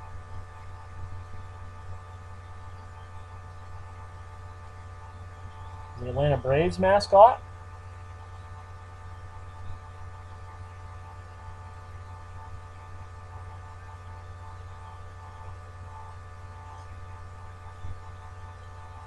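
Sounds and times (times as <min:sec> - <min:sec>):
electrical hum: 0:00.0 - 0:19.0
faint constant tones: 0:00.0 - 0:19.0.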